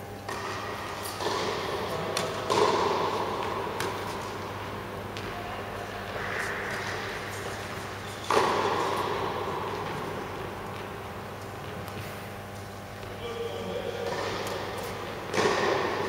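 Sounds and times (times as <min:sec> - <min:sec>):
indoor hall background hum: 0:00.0 - 0:16.0
tennis balls bounced and struck: 0:00.2 - 0:16.0.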